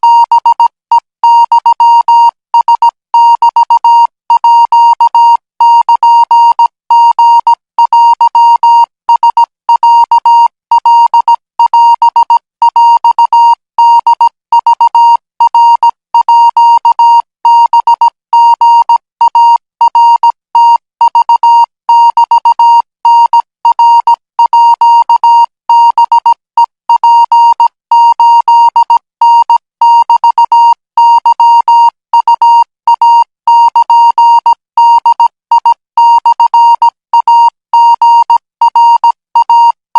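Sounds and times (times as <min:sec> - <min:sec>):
morse code beeps: 0:00.0 - 0:39.8.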